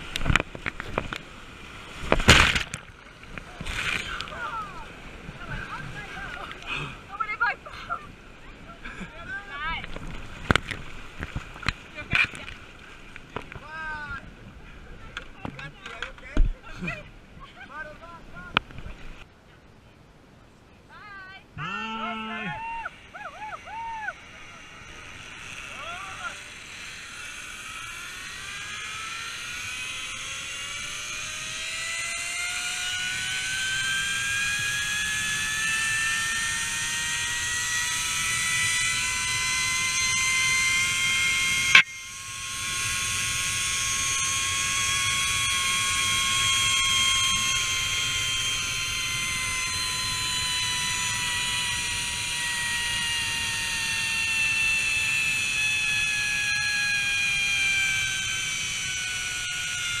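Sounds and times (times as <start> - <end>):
pulley wheels whining on cable: 0.0 - 13.9, 21.6 - 60.0.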